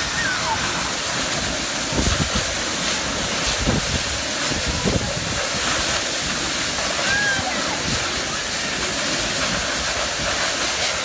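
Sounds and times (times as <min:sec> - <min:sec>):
waterfall rushing onto rocks: 0:00.0 - 0:11.0
wind buffeting microphone: 0:01.1 - 0:10.8.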